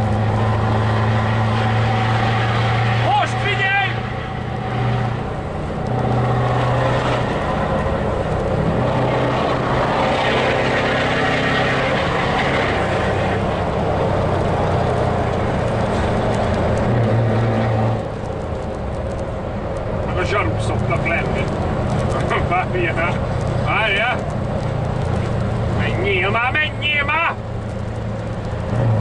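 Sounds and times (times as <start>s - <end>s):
truck engine rumbling: 0.0s - 29.0s.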